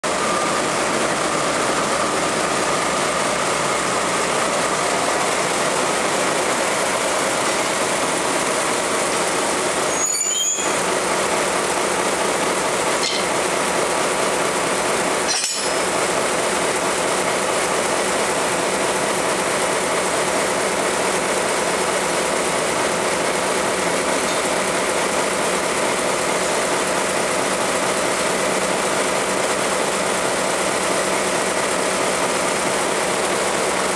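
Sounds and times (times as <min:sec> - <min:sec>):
diesel locomotive engine idling: 0:00.0 - 0:33.9.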